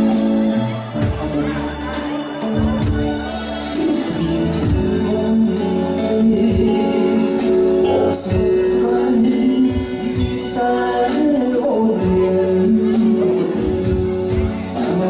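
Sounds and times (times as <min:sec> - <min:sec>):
live band with guitar: 0:00.0 - 0:15.0.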